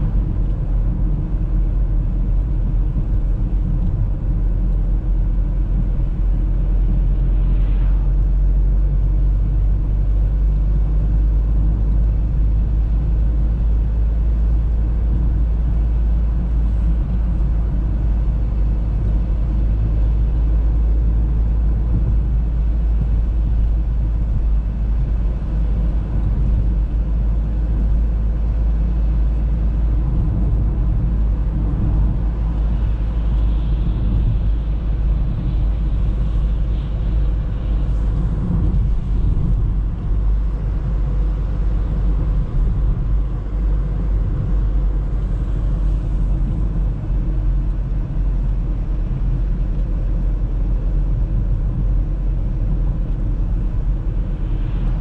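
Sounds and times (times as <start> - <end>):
car engine rumble: 0.0 - 55.0
tyre noise on road: 0.0 - 55.0.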